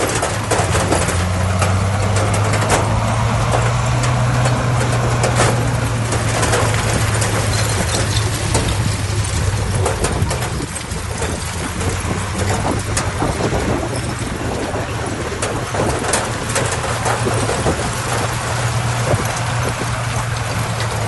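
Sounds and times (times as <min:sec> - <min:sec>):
clicks and rattles: 0:00.0 - 0:21.0
diesel engine droning: 0:00.0 - 0:21.0.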